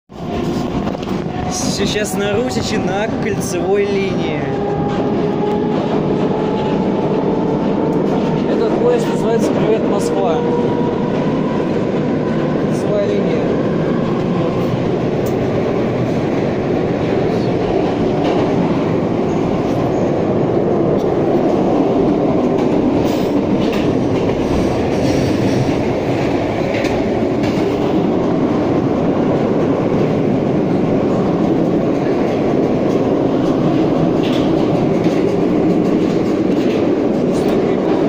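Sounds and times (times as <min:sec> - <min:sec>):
train rumble in tunnel: 0:00.1 - 0:38.0.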